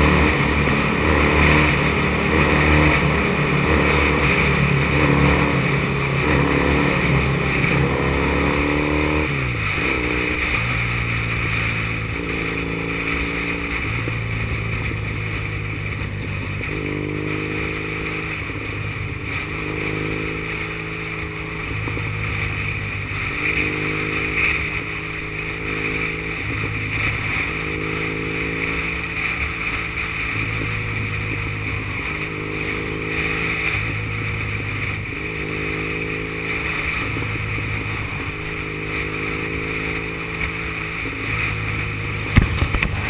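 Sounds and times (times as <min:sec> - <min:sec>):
motorcycle engine cruising: 0:00.0 - 0:43.0
wind and tyre hiss on wet road: 0:00.0 - 0:43.0.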